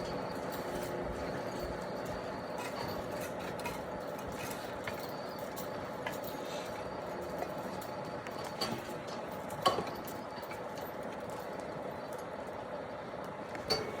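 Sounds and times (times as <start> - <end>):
construction machinery hum: 0.0 - 14.0.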